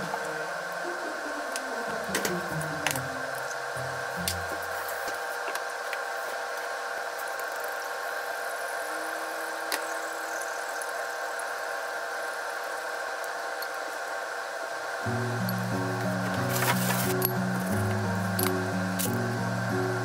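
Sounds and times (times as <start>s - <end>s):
appliance motor humming: 0.0s - 20.0s.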